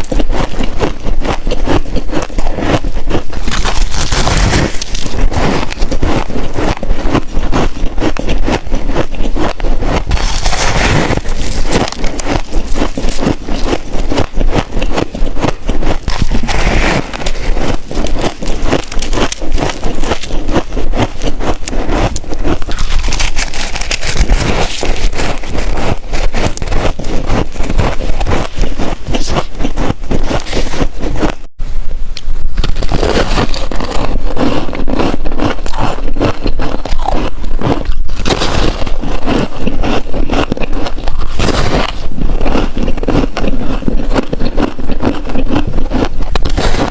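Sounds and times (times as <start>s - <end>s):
chewing crunchy frost: 0.0s - 31.5s, 32.4s - 46.9s.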